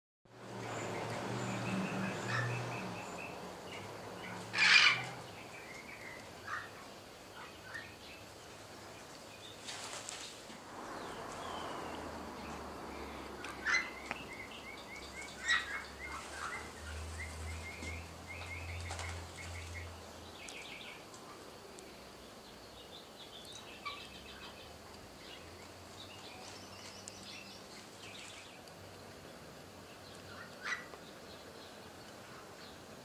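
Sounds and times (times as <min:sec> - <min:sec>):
birds chirping: 0:00.6 - 0:33.0.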